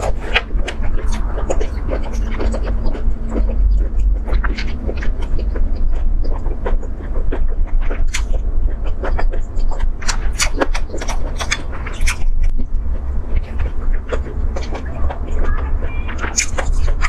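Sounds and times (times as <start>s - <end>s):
cartilage crackling between teeth: 0.0s - 17.0s
low rumble: 0.0s - 17.0s
wet chewing: 0.0s - 17.0s.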